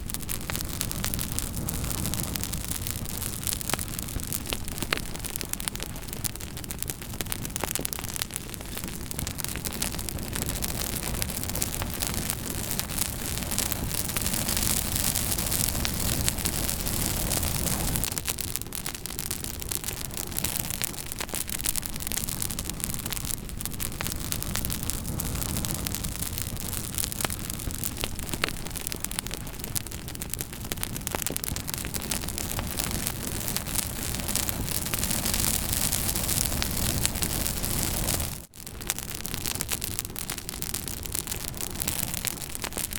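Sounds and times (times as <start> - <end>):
fire rushing hiss: 0.0 - 38.5
campfire wood crackling: 0.0 - 42.9.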